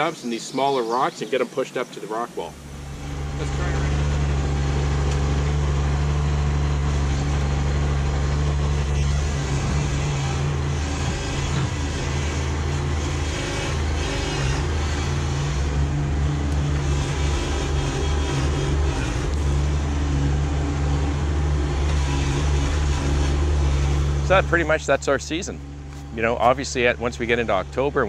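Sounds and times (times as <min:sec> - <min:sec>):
tractor diesel engine running: 0:02.4 - 0:28.0.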